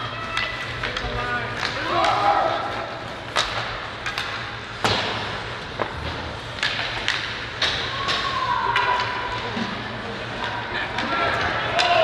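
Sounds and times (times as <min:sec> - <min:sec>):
hockey sticks and puck clacks: 0:00.0 - 0:12.0.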